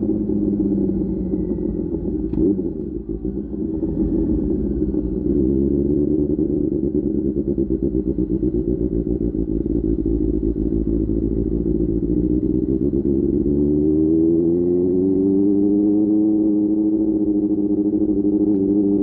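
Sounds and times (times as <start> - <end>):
motorcycle engine running low revs: 0.0 - 19.0.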